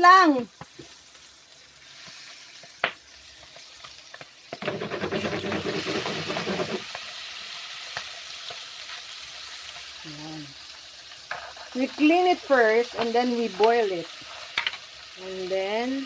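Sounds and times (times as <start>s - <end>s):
food frying in hot oil: 0.0s - 16.0s.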